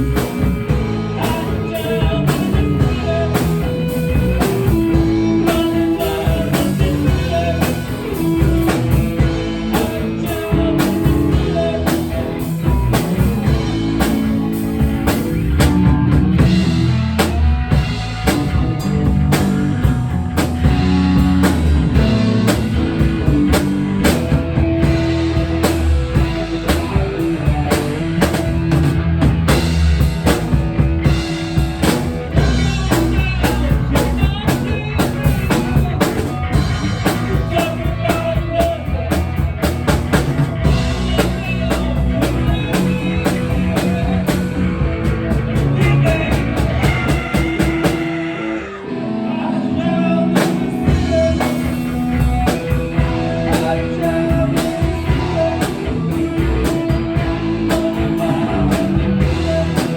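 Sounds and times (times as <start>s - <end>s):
driving drum hits: 0.0s - 48.3s
rock music: 0.0s - 59.9s.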